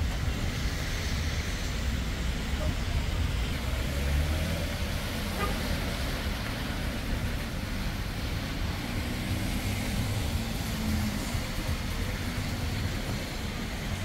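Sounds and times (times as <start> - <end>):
traffic engine rumble: 0.0 - 14.0
tyres hissing on wet road: 0.0 - 14.0.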